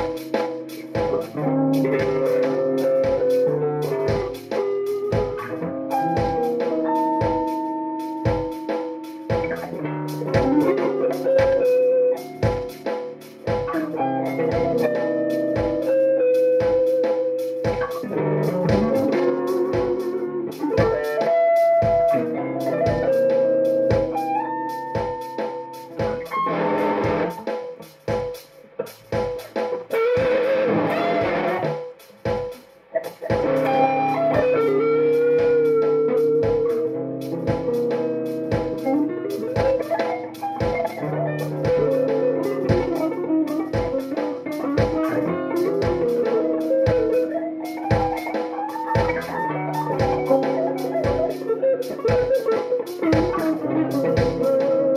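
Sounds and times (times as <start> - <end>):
electric guitar blues lead: 0.0 - 27.9, 28.7 - 54.9
backing track with steady beat: 0.0 - 54.9.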